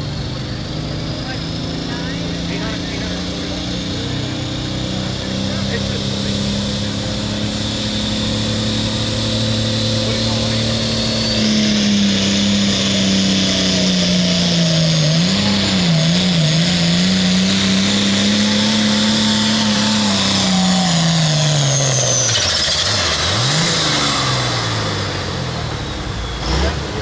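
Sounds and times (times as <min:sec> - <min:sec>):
tractor diesel engine under load: 0:00.0 - 0:27.0.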